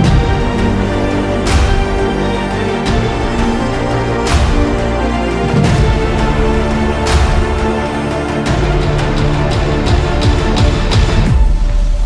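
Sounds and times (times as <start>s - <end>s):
heavy drum beat: 0.0s - 11.8s
intro theme music: 0.0s - 12.0s.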